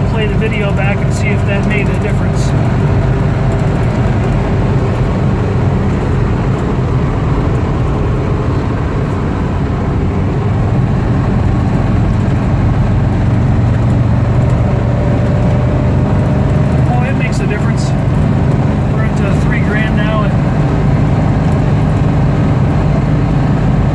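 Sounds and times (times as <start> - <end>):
low engine drone: 0.0 - 23.9
road and wind noise: 0.0 - 23.9.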